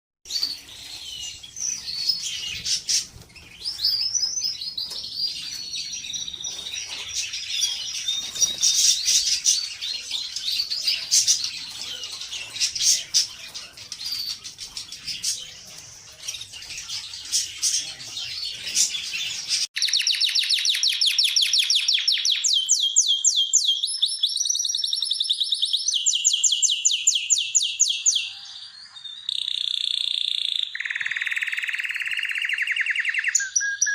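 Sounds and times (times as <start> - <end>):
fast repeated canary trills: 0.3 - 28.4, 29.1 - 33.9
canaries singing: 0.3 - 33.9.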